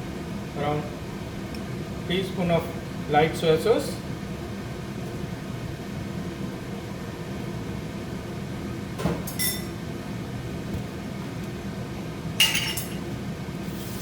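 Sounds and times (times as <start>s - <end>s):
low hum of kitchen noise: 0.0s - 14.0s.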